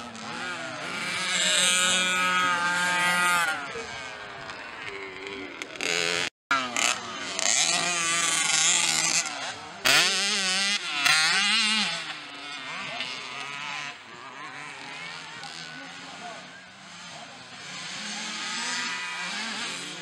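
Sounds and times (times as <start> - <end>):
motocross bike engines revving: 0.0 - 20.0.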